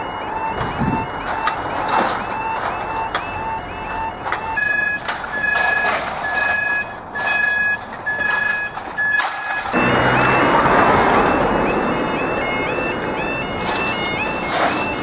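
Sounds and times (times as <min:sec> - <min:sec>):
crossing alarm high beeps: 0:00.0 - 0:15.0
warbling crossing alarm: 0:00.0 - 0:15.0.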